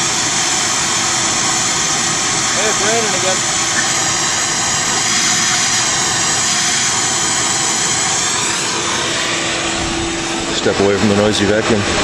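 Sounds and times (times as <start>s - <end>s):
shop vacuum motor whine: 0.0s - 12.0s
air rushing: 2.1s - 12.0s.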